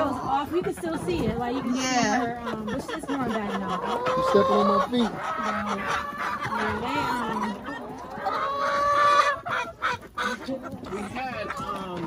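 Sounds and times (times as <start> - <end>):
chickens clucking and calling: 0.0 - 12.0.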